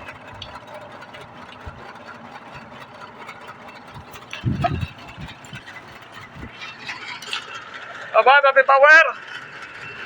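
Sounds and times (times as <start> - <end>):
motor running: 0.0 - 10.0.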